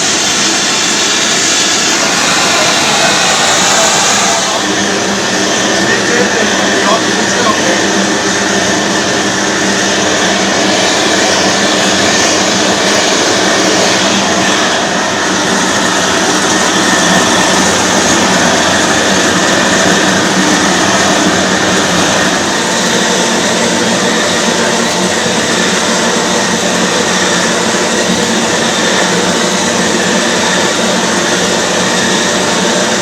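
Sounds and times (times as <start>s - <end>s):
gas torch rushing: 0.0s - 28.3s.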